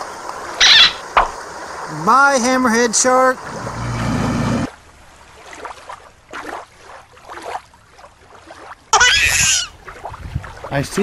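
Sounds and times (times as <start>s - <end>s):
water splashing in a creek: 0.0s - 11.0s.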